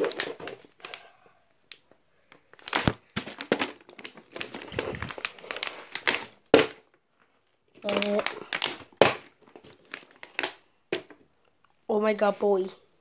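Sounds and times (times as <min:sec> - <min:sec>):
plastic crinkling: 0:00.0 - 0:01.1, 0:01.7 - 0:11.1.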